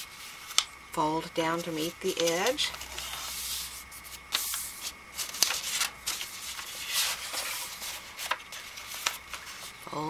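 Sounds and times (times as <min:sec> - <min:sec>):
paper rustling and crackling: 0:01.6 - 0:10.0.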